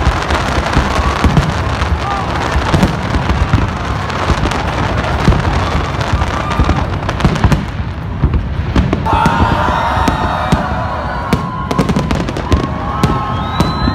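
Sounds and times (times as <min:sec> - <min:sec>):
low fireworks booms: 0:00.0 - 0:13.9.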